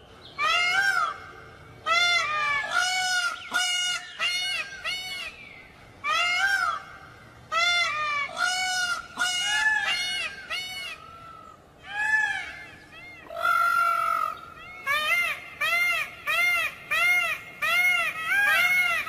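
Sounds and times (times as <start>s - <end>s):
peacock calling: 0.3s - 19.0s.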